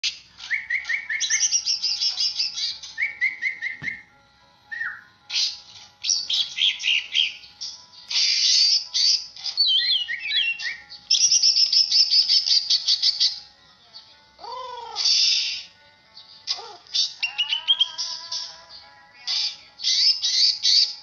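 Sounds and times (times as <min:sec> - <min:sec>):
rapid bird trill: 0:00.0 - 0:04.1, 0:04.7 - 0:13.5, 0:14.4 - 0:21.0
songbird singing: 0:00.0 - 0:21.0.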